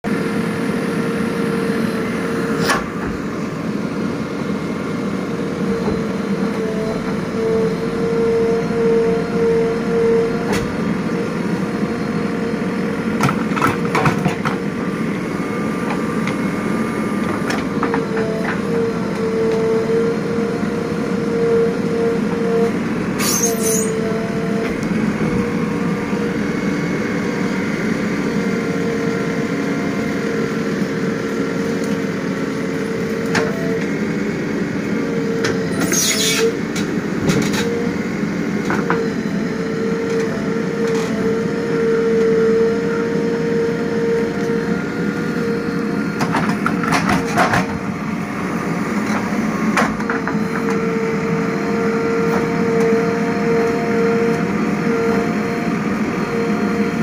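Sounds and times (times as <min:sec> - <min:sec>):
diesel engine running: 0:00.0 - 0:57.0
hydraulic whine: 0:00.1 - 0:57.0.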